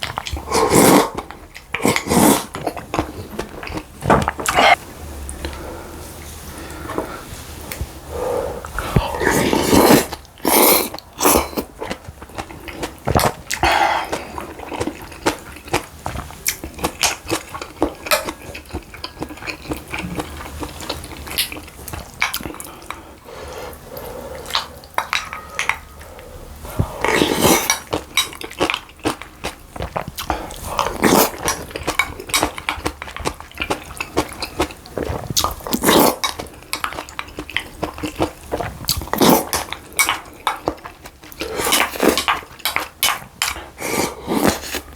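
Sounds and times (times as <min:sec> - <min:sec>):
chewing: 0:00.0 - 0:05.6, 0:08.6 - 0:44.9.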